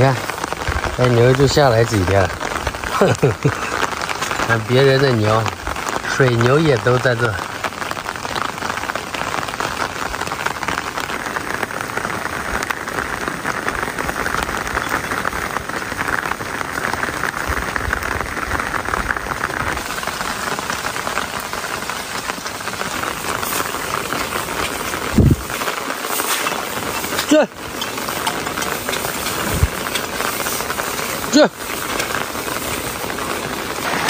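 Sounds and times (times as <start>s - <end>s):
steady rain pattering: 0.0s - 34.0s.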